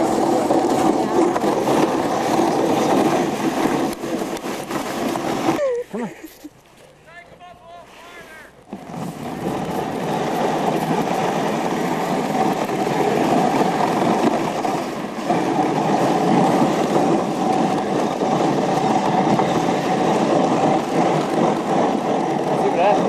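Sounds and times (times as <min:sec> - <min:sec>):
sled runners scraping on snow: 0:00.0 - 0:23.0.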